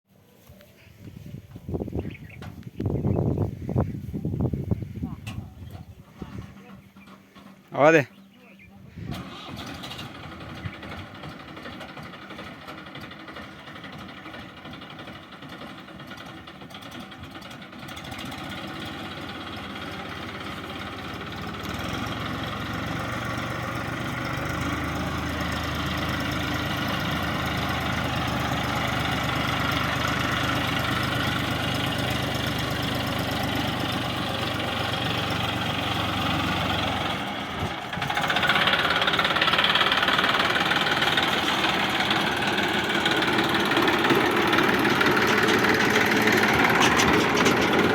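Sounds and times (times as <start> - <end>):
tractor engine running: 0.3 - 47.9.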